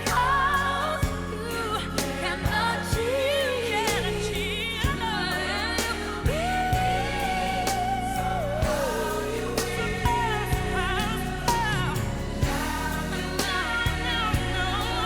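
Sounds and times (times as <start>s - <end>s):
person singing pop song: 0.0s - 15.0s.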